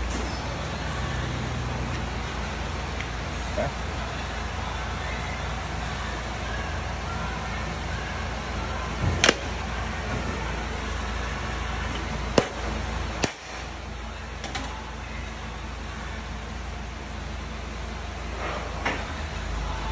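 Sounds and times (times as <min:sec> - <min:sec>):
shop noise: 0:00.0 - 0:19.9.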